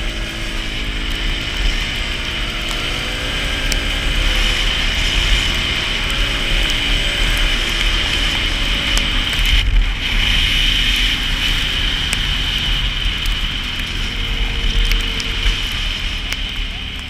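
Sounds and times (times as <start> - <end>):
atv engine running: 0.0 - 17.0
wind rushing over microphone: 0.0 - 17.0.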